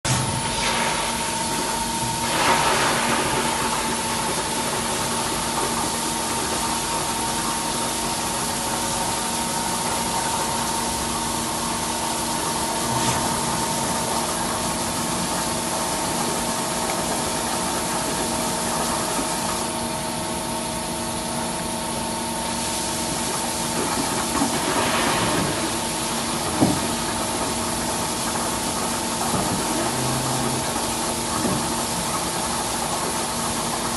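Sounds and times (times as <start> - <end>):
machine hum with high whine: 0.1 - 33.9.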